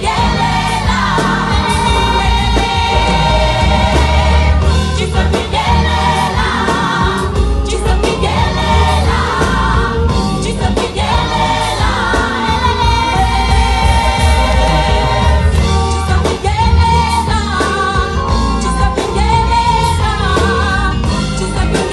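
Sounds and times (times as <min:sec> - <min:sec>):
amplified backing with heavy bass: 0:00.0 - 0:21.9
large choir singing: 0:00.0 - 0:21.9.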